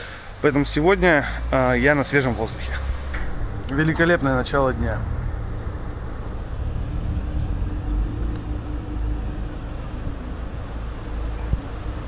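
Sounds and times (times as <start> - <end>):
city street traffic rumble: 0.0 - 12.0
faint hum: 0.0 - 12.0.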